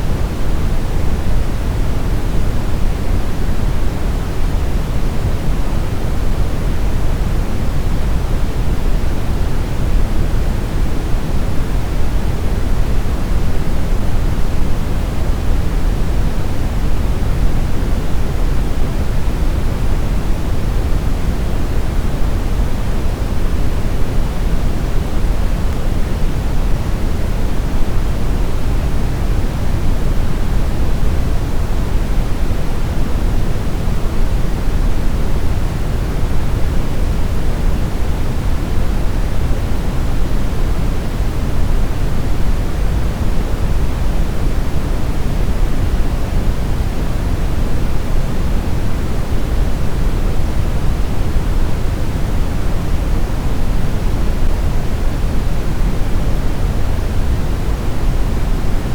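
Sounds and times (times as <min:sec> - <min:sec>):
brown noise rumbling hiss: 0:00.0 - 0:58.9.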